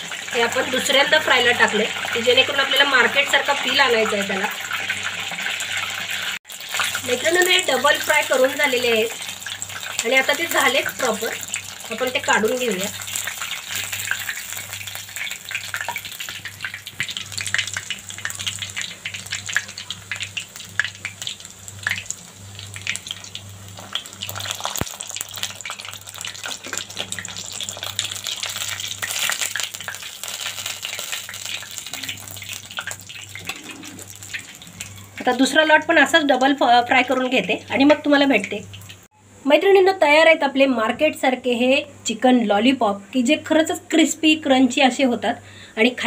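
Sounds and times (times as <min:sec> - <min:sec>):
food deep-frying in hot oil: 0:00.0 - 0:39.2.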